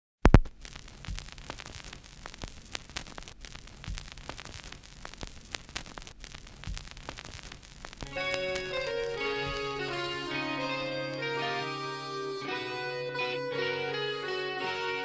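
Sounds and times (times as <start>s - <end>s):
crackling static hiss: 0.2s - 15.0s.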